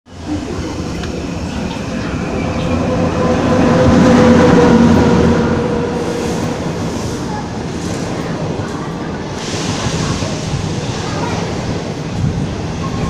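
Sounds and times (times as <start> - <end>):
train passing with rumble: 0.1 - 13.0.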